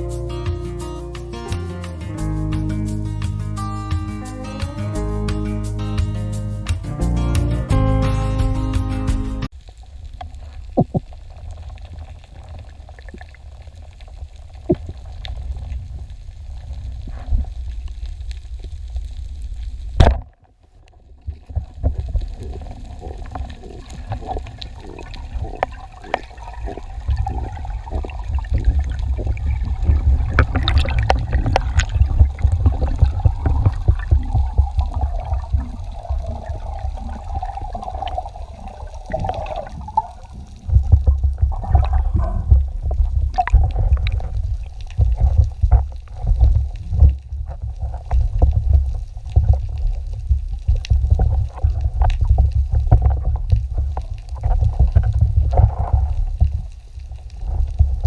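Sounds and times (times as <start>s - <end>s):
underwater clicks and crackles: 9.5s - 58.0s
underwater rumble of moving water: 9.5s - 58.0s.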